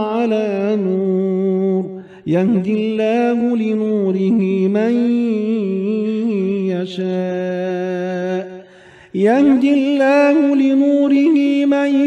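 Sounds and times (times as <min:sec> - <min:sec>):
melodic recitation by one voice: 0:00.0 - 0:12.0.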